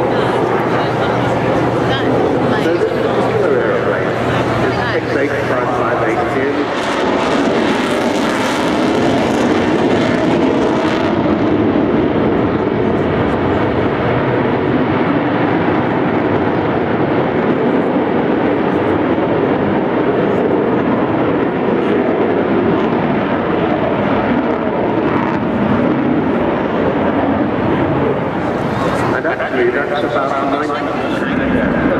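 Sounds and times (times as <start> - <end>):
loud jet noise: 0.0 - 31.9.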